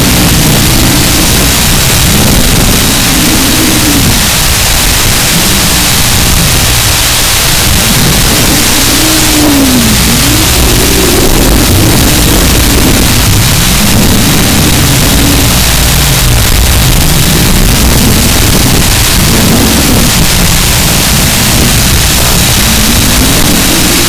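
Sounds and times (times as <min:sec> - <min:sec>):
loud steady hiss: 0:00.0 - 0:24.0
small drone motors whining: 0:00.0 - 0:24.0.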